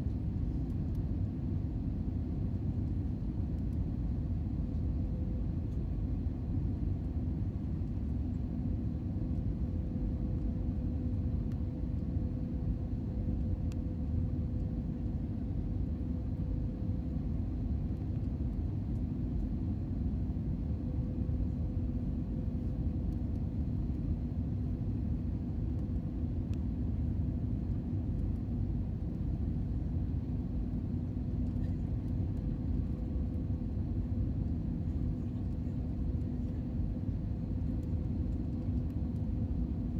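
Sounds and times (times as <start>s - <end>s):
jet engine rumble: 0.0s - 39.9s
steady low hum: 0.0s - 39.9s.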